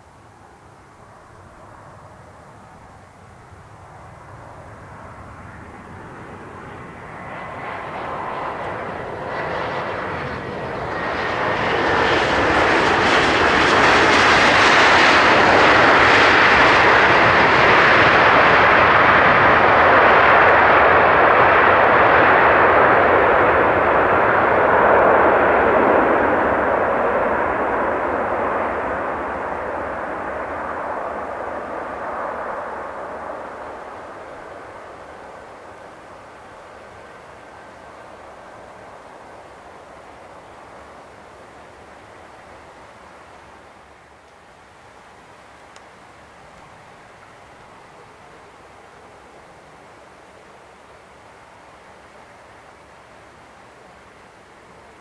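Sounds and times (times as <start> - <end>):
faint engine whine: 0.0 - 55.0
jet airliner engines rushing: 0.0 - 55.0.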